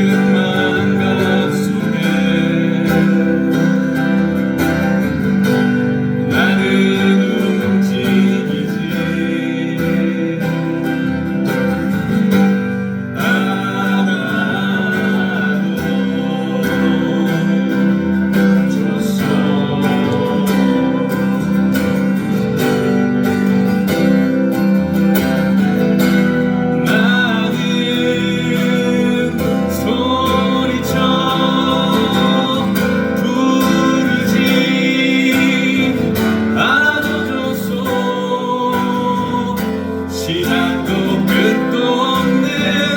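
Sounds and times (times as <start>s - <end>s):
person singing: 0.0s - 23.4s, 24.0s - 42.9s
strummed acoustic guitar: 0.0s - 42.9s.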